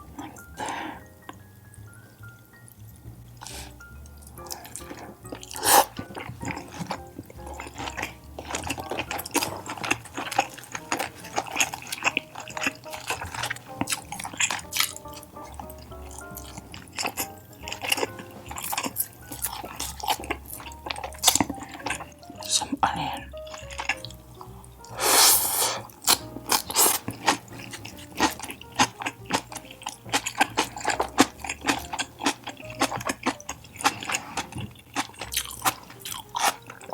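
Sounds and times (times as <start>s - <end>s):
quiet background music: 0.0s - 36.9s
wet chewing: 0.0s - 36.9s
lip smacks: 0.1s - 36.9s.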